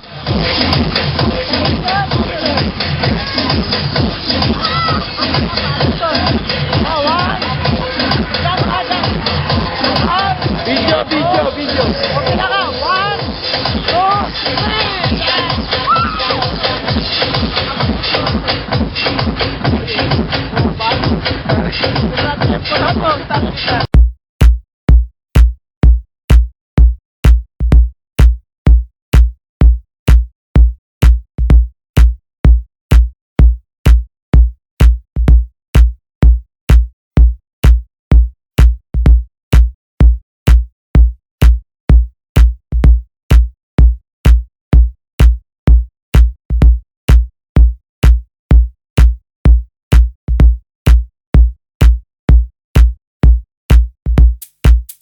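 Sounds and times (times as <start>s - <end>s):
electronic dance kick drum: 0.0s - 55.0s.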